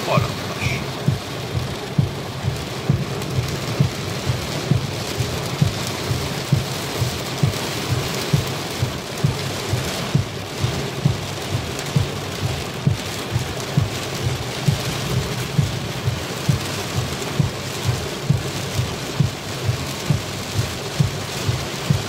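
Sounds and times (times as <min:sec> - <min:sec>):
heavy rain on car roof: 0:00.0 - 0:22.0
windscreen wipers thumping: 0:00.2 - 0:22.0.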